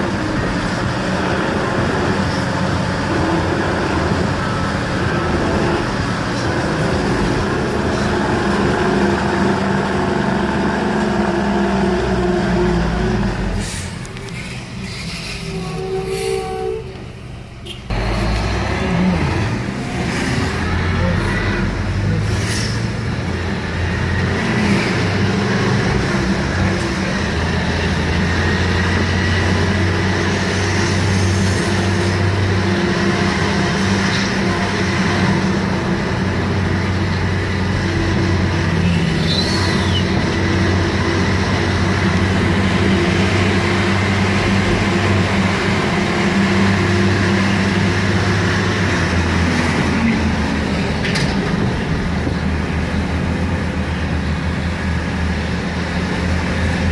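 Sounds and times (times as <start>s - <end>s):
truck diesel engine drone: 0.0s - 56.9s.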